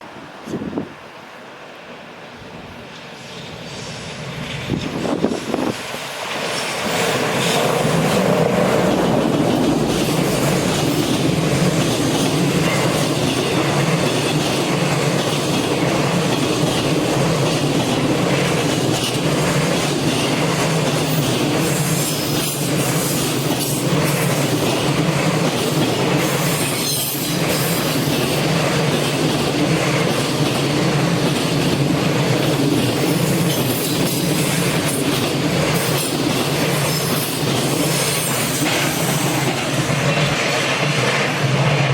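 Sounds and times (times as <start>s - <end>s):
freight train passing: 0.0s - 41.9s.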